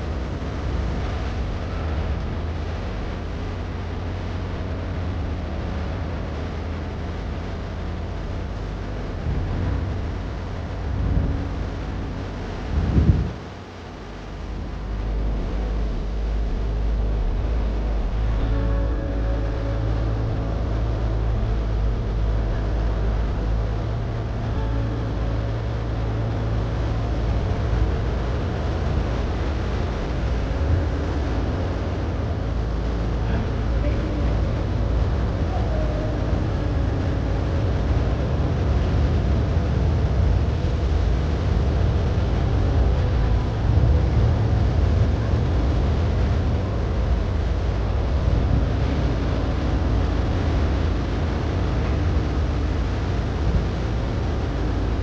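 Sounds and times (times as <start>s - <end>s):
boat engine droning: 0.0s - 55.0s
wind rumbling on microphone: 0.0s - 55.0s.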